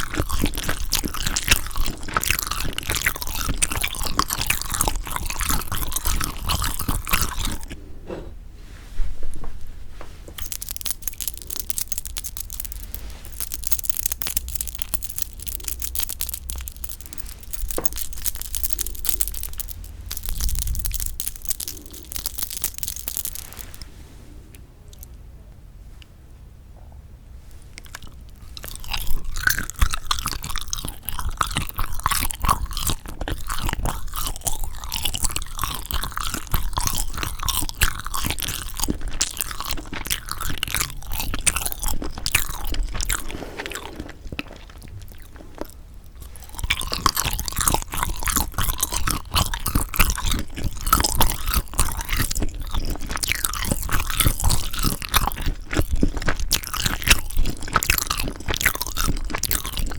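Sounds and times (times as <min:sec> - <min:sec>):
close chewing with wet clicks: 0:00.0 - 0:07.8, 0:10.4 - 0:23.8, 0:27.6 - 0:59.9.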